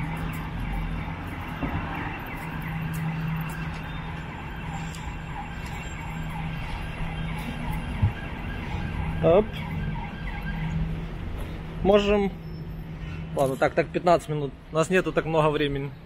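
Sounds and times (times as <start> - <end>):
distant siren wailing: 0.0 - 13.4
traffic engine hum: 0.0 - 16.0.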